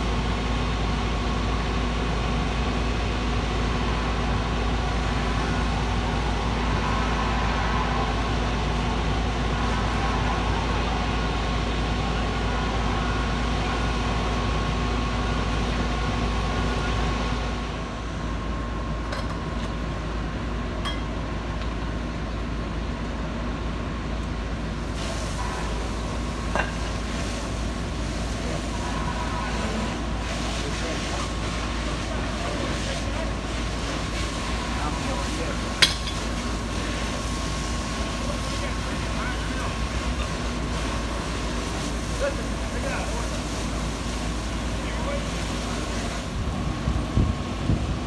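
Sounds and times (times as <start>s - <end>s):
heavy vehicle engines idling: 0.0s - 48.0s.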